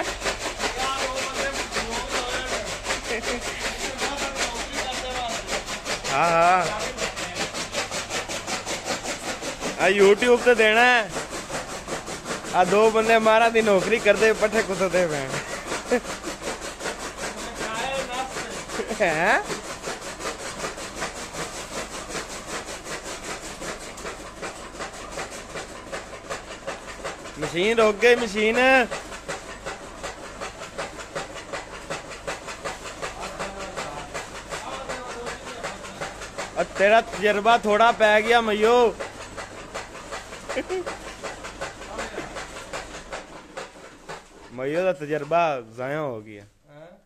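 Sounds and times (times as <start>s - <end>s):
chaff cutter chopping rattle: 0.0s - 45.4s.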